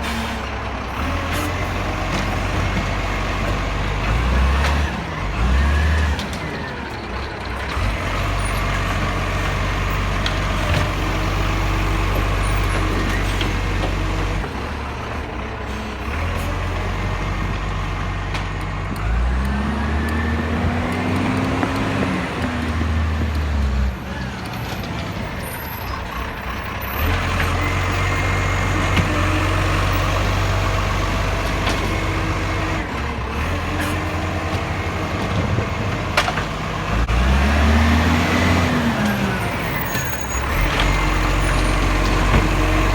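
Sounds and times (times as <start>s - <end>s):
diesel engine idling and revving: 0.0s - 42.9s.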